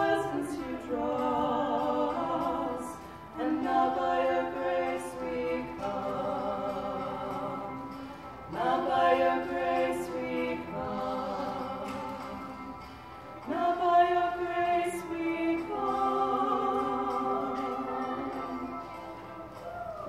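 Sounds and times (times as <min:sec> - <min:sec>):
women singing a duet: 0:00.0 - 0:20.0.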